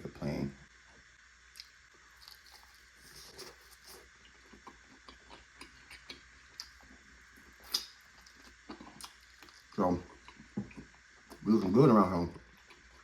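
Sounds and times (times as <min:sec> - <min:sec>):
chewing with wet mouth clicks: 0:01.5 - 0:11.4, 0:12.5 - 0:13.0.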